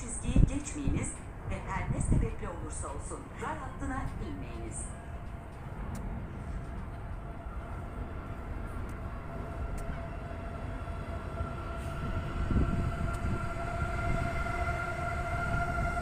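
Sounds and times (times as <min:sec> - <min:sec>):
metro train rumble: 0:00.0 - 0:16.0.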